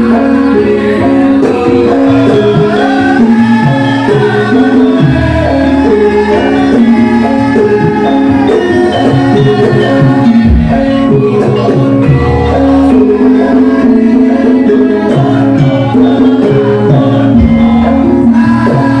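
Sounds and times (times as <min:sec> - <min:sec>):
gamelan ensemble playing: 0:00.0 - 0:19.0
person singing: 0:00.0 - 0:19.0.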